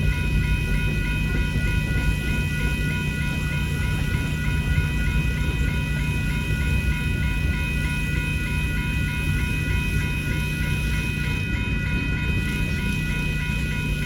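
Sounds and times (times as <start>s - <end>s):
generator humming: 0.0s - 14.0s.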